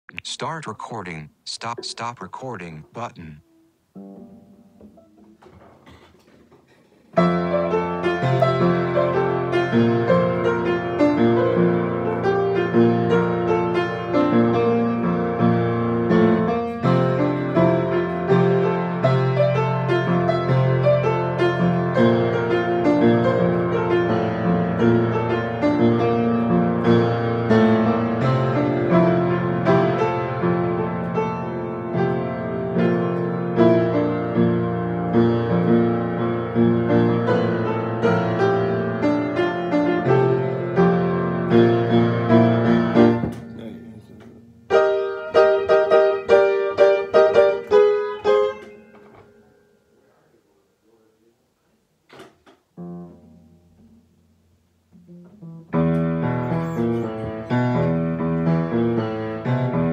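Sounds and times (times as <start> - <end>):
piano music: 1.6 - 6.0, 7.1 - 49.6, 54.9 - 59.9.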